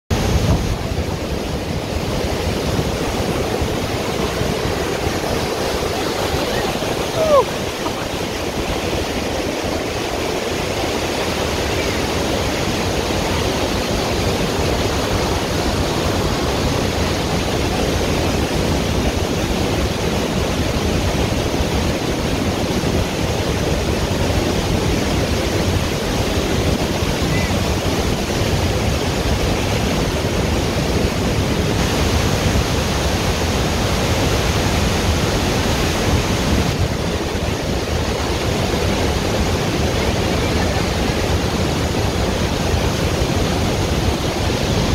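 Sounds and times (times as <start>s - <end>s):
waterfall rushing: 0.1s - 44.9s.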